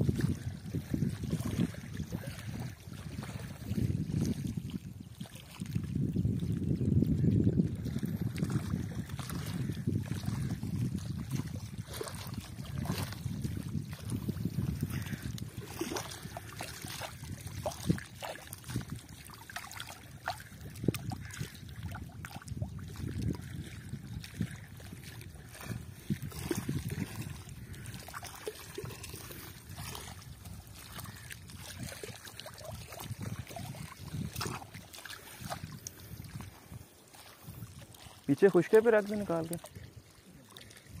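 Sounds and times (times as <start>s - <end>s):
water lapping at lake edge: 0.0s - 41.0s.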